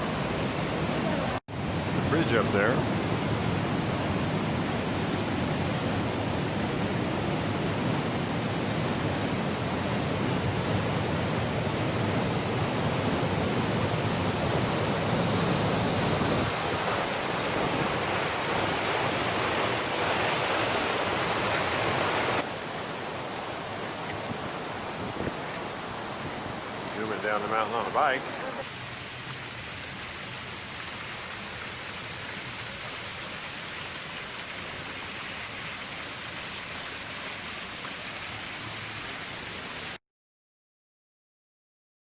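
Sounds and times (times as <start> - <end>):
rushing water hiss: 0.0 - 40.0.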